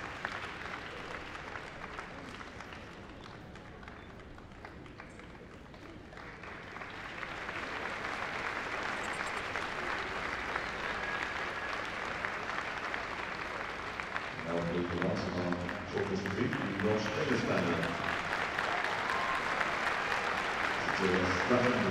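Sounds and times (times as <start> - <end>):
crowd applauding: 0.0 - 21.9.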